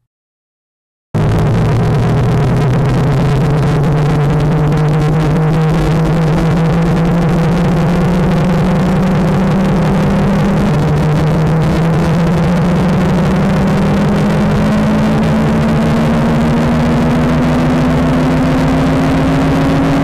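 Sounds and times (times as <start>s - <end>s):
harsh distorted noise: 1.2s - 20.0s
low drone: 1.2s - 20.0s.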